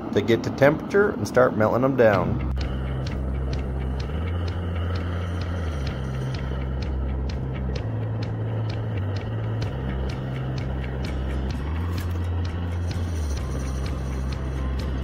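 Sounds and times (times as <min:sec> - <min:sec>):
propane burner roaring: 0:00.0 - 0:15.0.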